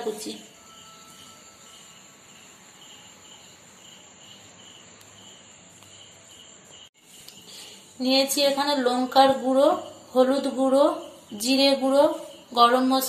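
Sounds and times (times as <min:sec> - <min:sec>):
insect chirping: 0:00.0 - 0:13.0
steady high hiss: 0:00.0 - 0:13.0.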